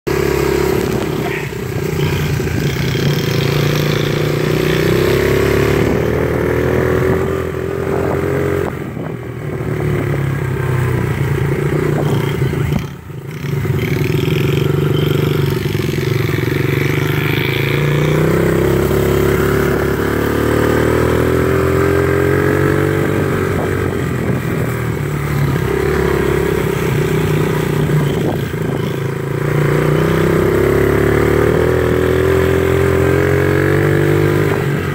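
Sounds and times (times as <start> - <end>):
dirt bike engine revving: 0.1 - 9.1, 9.7 - 34.9.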